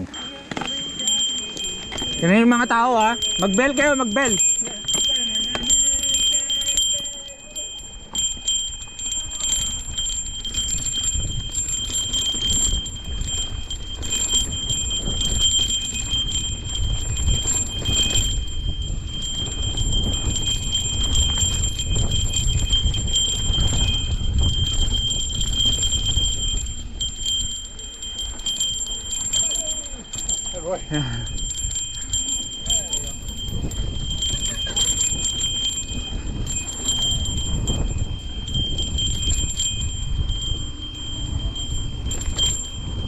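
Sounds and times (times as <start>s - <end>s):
bicycle bells ringing: 0.0s - 43.0s
rattling clicks of bikes: 0.0s - 43.0s.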